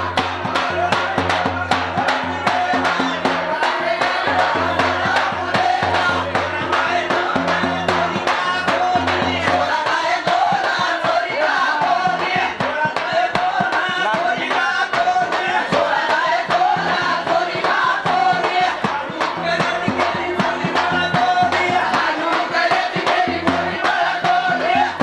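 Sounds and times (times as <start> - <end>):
barrel drum beat: 0.0 - 25.0
men singing folk song: 0.0 - 25.0.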